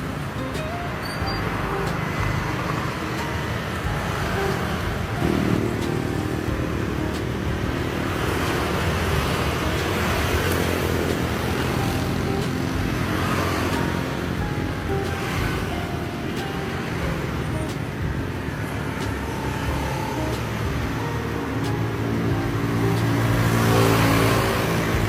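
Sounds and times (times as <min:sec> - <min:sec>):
passing cars and motorcycles: 0:00.0 - 0:25.0
vehicle engine: 0:00.0 - 0:25.0.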